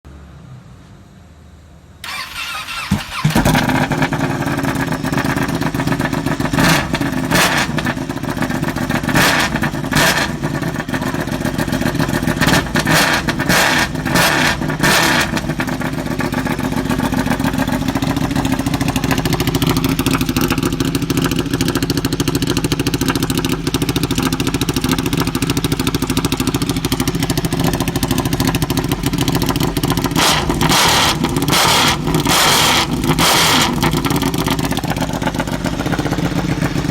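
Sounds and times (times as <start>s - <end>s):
motorcycle engine idling and revving: 2.0s - 36.9s.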